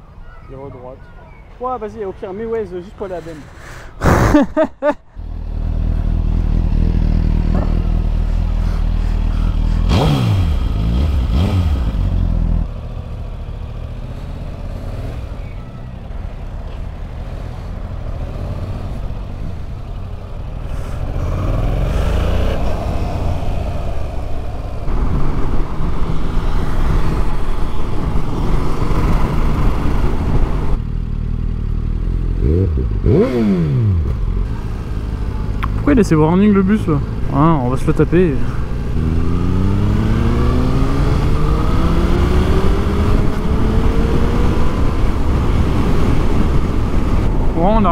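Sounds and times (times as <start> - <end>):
motorcycle engine revving: 5.2 - 37.5, 38.1 - 47.9.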